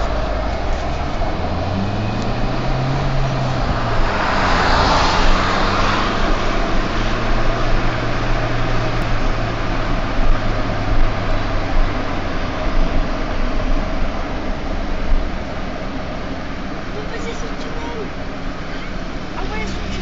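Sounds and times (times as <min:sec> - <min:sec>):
car engine and road noise: 0:00.0 - 0:20.0
rush of noise: 0:00.0 - 0:20.0.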